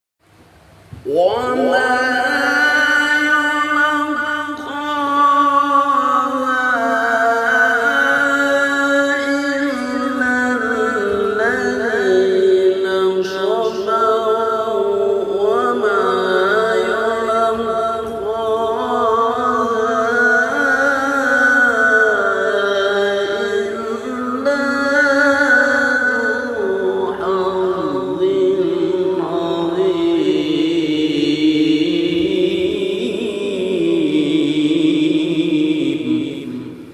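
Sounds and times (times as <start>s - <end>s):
person chanting melodic recitation: 1.0s - 36.9s.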